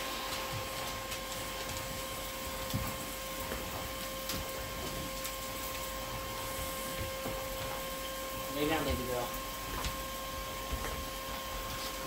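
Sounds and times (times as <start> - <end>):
shop vac running: 0.0 - 12.0.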